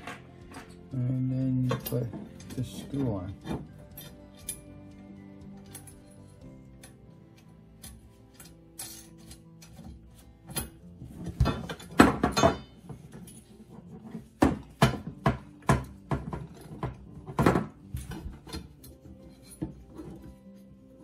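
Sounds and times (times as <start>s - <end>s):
metal tubes knocking and clicking: 0.0s - 20.4s.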